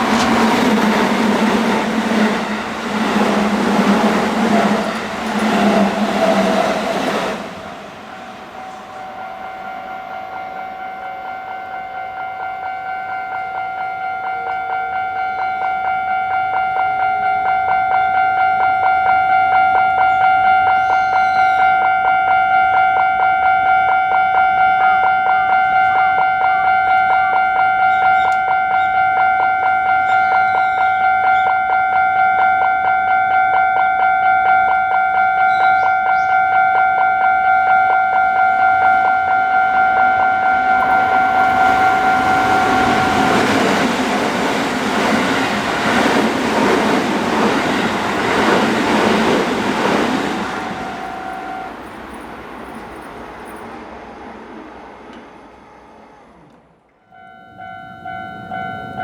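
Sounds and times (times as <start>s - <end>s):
level crossing warning bell clanging: 0.0s - 7.3s, 8.2s - 53.8s, 57.0s - 59.0s.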